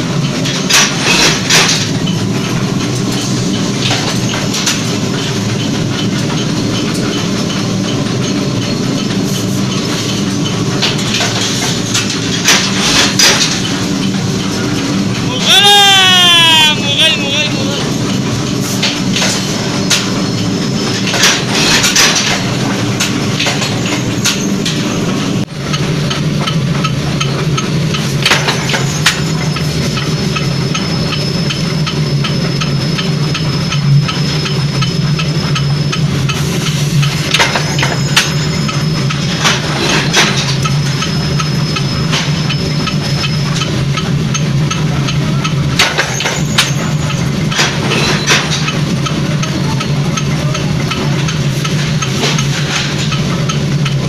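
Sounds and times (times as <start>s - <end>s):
power press machine hum: 0.0s - 15.4s, 17.7s - 54.0s.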